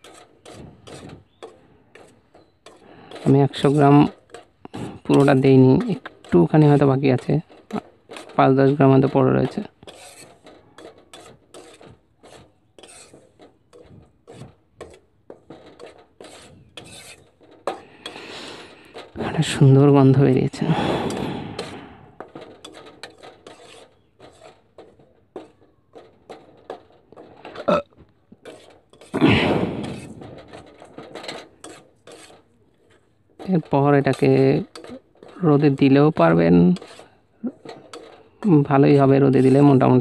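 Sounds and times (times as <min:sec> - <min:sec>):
metal spoon scraping pan: 0:00.0 - 0:40.0.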